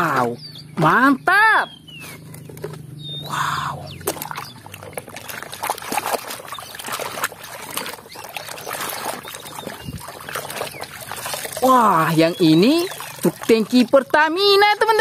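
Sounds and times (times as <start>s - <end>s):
muddy water sloshing and splashing: 0.0s - 1.0s, 1.7s - 15.0s.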